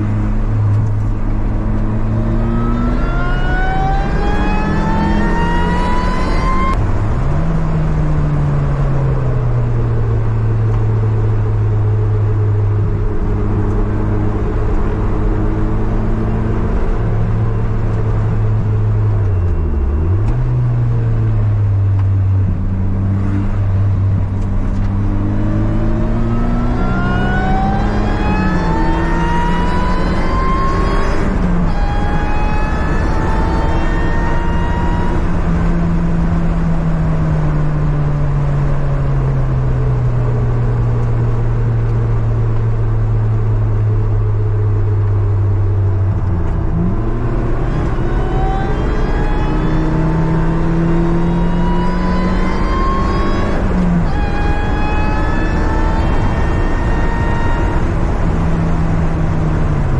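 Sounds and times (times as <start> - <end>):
car engine revving: 0.0 - 59.9
road and wind noise: 0.0 - 59.9.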